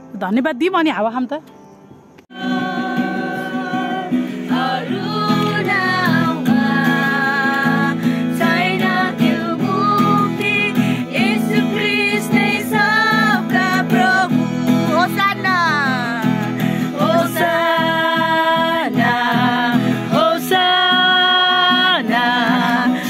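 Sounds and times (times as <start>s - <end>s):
acoustic guitar strumming chords: 2.3s - 23.0s
women singing: 2.3s - 23.0s.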